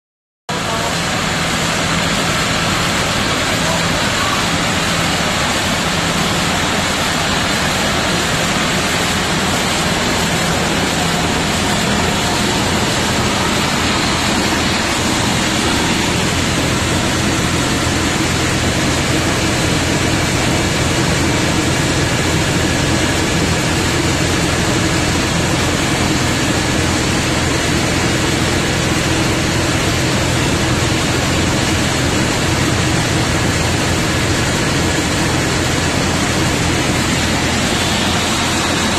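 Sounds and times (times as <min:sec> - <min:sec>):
engine-driven rice mill running: 0:00.5 - 0:38.9.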